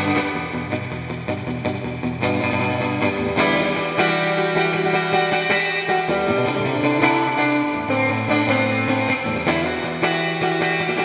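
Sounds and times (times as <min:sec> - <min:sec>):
electric guitar chords: 0:00.0 - 0:11.0.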